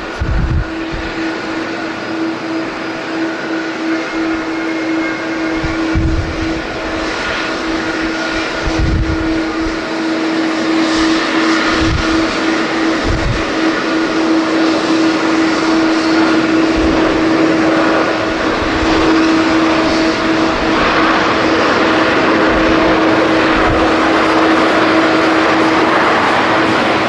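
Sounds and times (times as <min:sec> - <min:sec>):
jet engines roaring: 0:00.0 - 0:27.0
wind buffeting microphone: 0:00.0 - 0:27.0.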